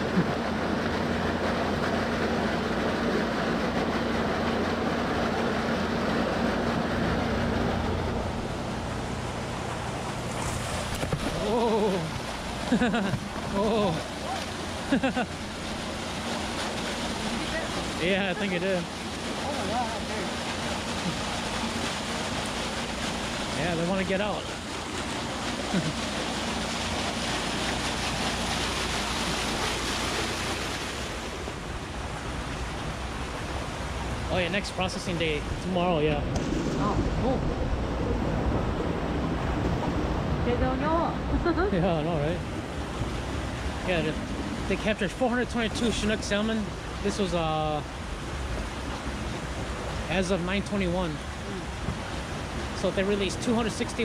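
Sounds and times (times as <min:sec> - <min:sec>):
rushing churning water: 0:00.0 - 0:54.0
steady low hum: 0:00.0 - 0:54.0.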